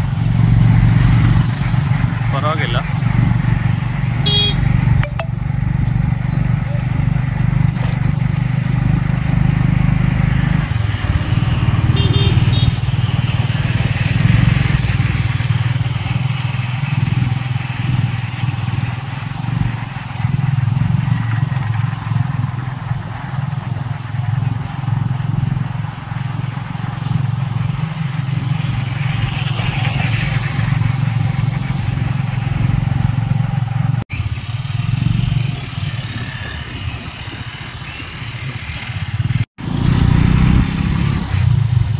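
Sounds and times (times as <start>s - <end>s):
motorcycle engine running: 0.0s - 41.9s
road and traffic noise: 0.0s - 41.9s.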